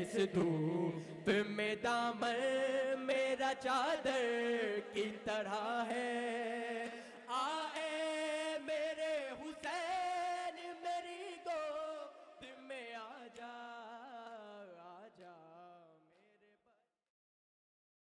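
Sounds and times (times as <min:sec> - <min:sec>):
men chanting a lament: 0:00.0 - 0:15.1.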